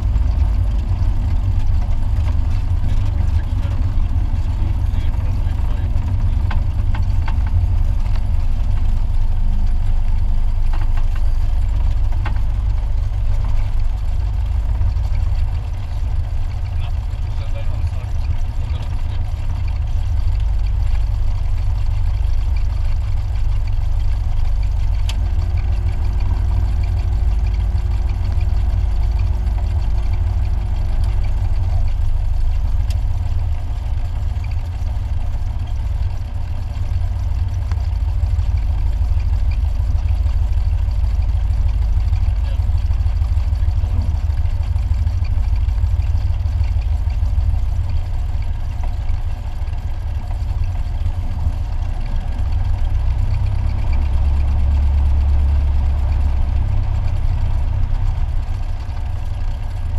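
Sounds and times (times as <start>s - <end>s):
aircraft engine idling: 0.0s - 59.9s.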